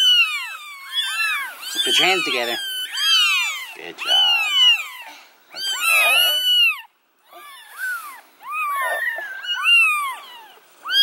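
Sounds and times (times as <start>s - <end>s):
kittens mewing: 0.0s - 11.0s.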